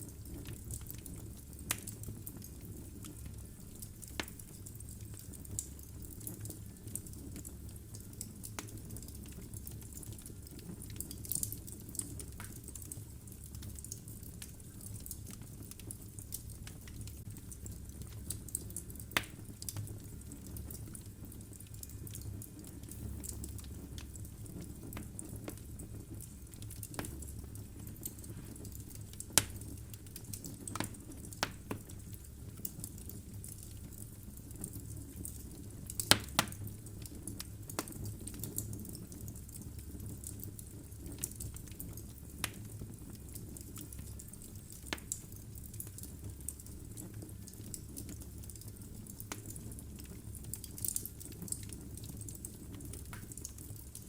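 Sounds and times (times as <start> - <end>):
fire crackles and pops: 0.0 - 54.0
flame rumbling: 0.0 - 54.0.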